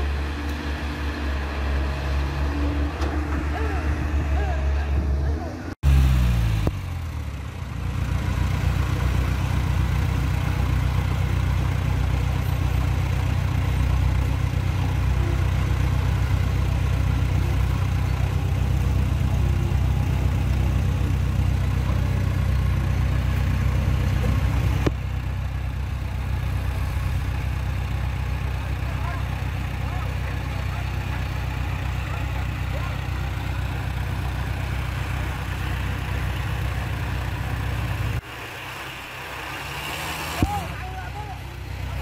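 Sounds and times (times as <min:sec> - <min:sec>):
diesel engines chugging: 0:00.0 - 0:42.0.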